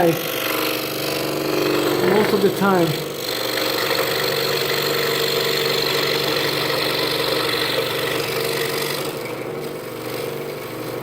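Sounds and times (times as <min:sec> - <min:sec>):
scroll saw cutting wood: 0:00.0 - 0:11.0.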